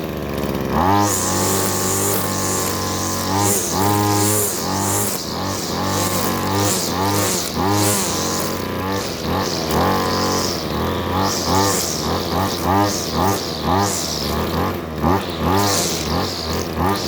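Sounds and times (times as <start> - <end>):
string trimmer engine revving: 0.0 - 17.0.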